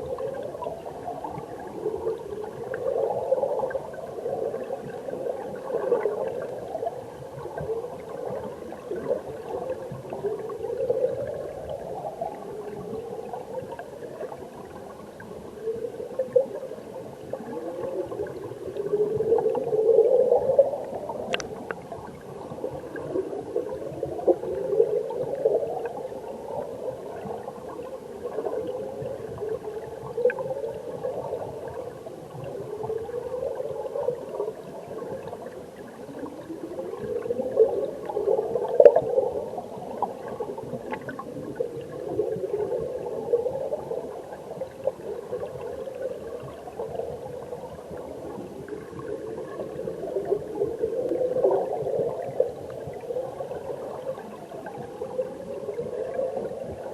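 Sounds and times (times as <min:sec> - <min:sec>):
underwater stream gurgling: 0:00.0 - 0:56.9.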